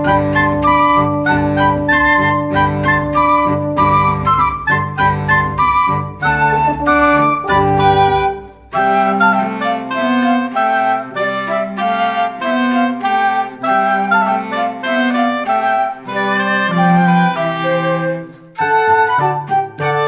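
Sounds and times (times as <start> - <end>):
instrumental background music: 0.0 - 20.0.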